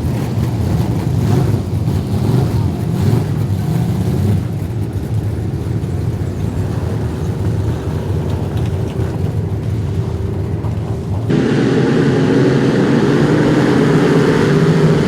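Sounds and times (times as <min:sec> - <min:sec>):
race car engines rumbling: 0:00.0 - 0:15.0.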